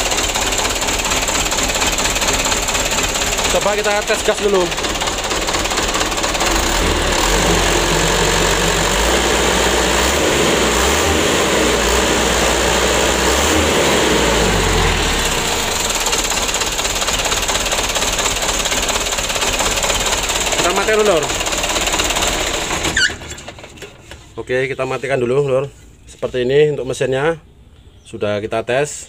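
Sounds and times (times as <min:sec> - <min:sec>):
diesel engine revving: 0:00.0 - 0:23.8.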